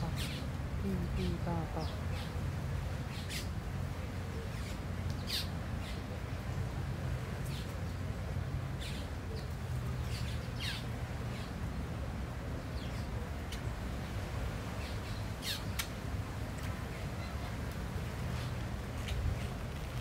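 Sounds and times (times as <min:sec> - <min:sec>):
birds calling: 0:00.0 - 0:16.0
low background noise: 0:00.0 - 0:20.0.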